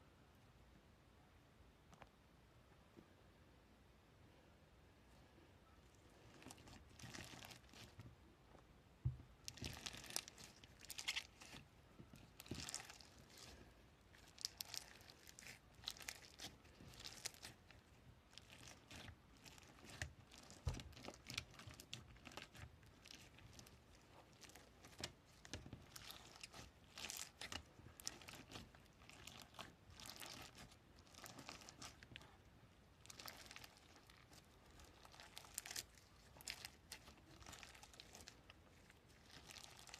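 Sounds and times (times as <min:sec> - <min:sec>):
crinkly material crackling: 0:05.8 - 0:39.9.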